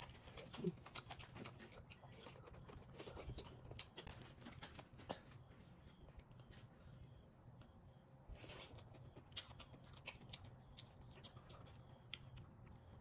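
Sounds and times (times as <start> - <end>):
chewing: 0.0 - 7.0, 8.4 - 13.0.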